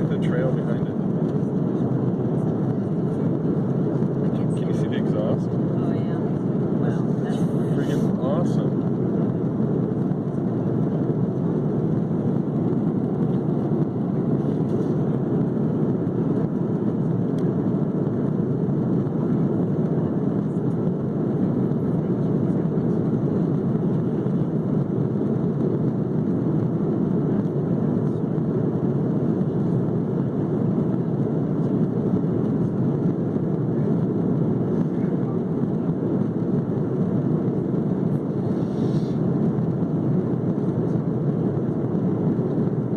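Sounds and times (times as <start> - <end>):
airliner cabin engine roar: 0.0 - 42.9.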